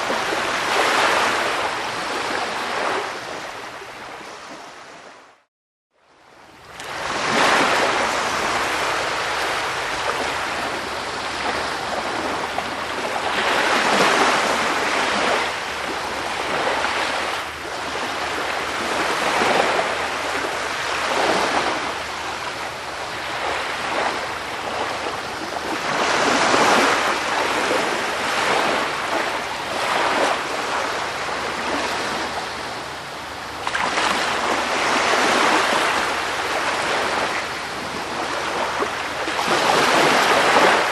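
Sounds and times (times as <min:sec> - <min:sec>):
sea waves breaking on shore: 0:00.0 - 0:05.5, 0:06.2 - 0:40.9.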